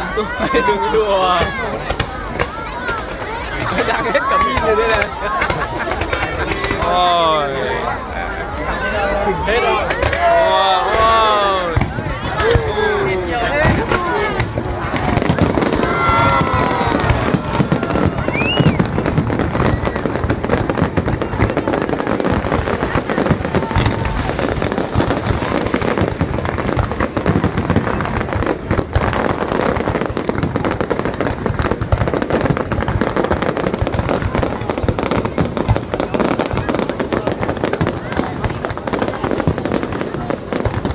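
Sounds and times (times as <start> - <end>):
fireworks crackling and popping: 0.0 - 40.9.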